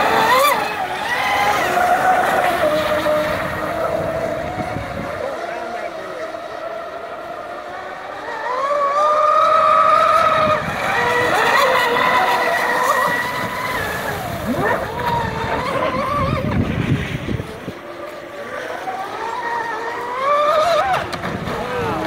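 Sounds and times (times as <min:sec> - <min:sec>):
rc boat motor whine: 0:00.0 - 0:22.0.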